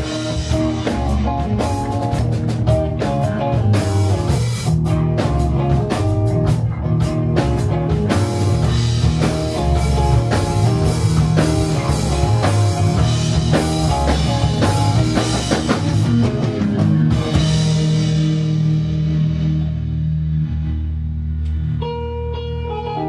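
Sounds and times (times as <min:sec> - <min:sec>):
drum kit: 0:00.0 - 0:22.0
bass guitar: 0:00.0 - 0:23.0
electric guitar: 0:00.0 - 0:23.0.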